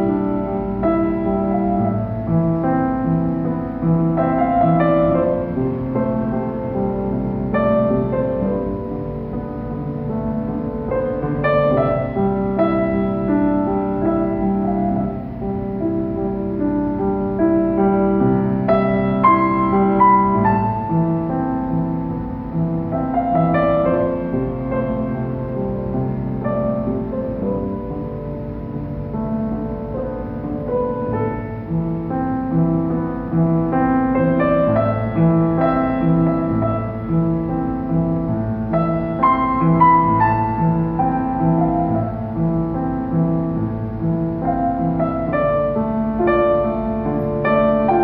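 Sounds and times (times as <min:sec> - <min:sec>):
grand piano playing: 0:00.0 - 0:48.0.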